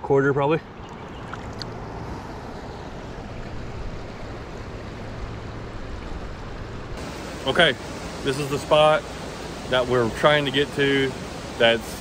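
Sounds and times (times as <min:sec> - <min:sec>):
creek water rushing: 0:00.6 - 0:12.0.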